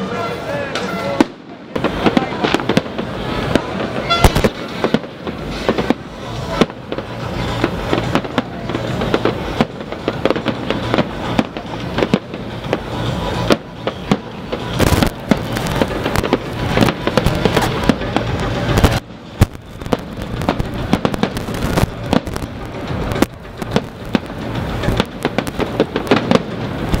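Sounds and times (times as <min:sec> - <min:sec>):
fireworks bursts and crackles: 0:00.0 - 0:27.0.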